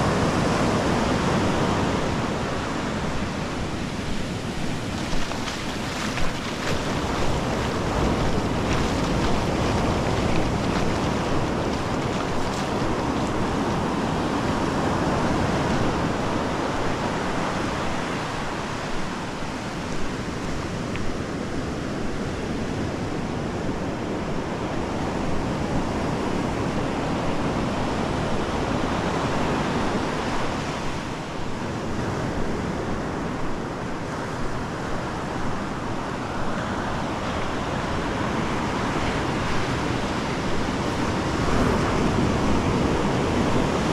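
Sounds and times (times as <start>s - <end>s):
ocean surf washing on beach: 0.0s - 43.9s
wind rumbling on microphone: 0.0s - 43.9s.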